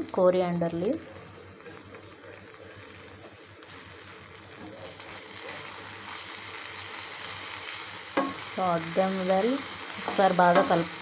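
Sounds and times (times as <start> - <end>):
corn sizzling in oil: 0.0 - 11.0.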